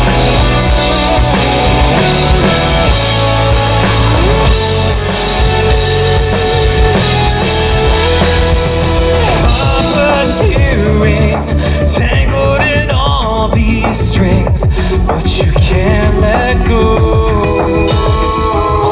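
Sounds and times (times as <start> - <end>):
rock band playing instrumental: 0.0 - 18.9.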